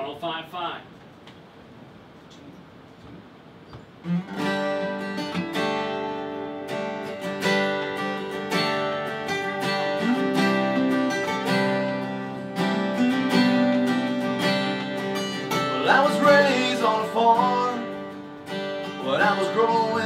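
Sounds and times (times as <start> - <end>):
acoustic guitars strumming: 3.9 - 20.0.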